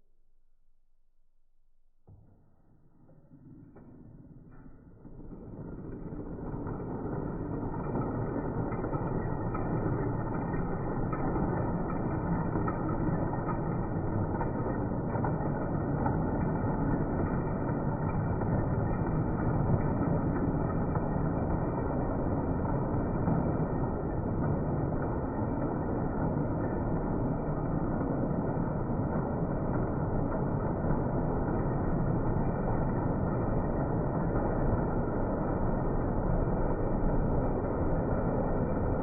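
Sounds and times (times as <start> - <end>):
model train running on track: 5.3 - 39.0.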